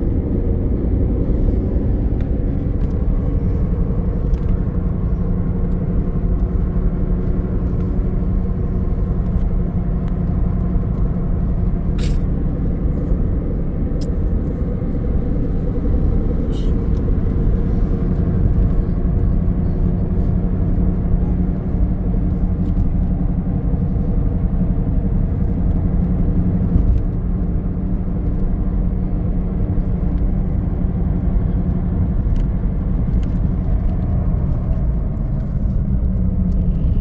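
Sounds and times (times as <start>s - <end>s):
car engine hum: 0.0s - 37.0s
road rumble: 0.0s - 37.0s.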